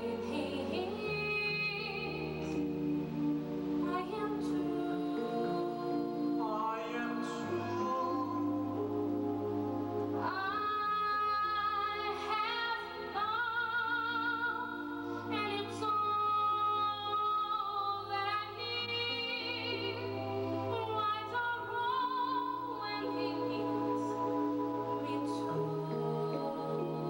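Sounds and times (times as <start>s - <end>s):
woman singing with vibrato: 0.0s - 2.9s, 3.8s - 9.3s, 10.1s - 27.0s
instrumental accompaniment: 0.0s - 27.0s.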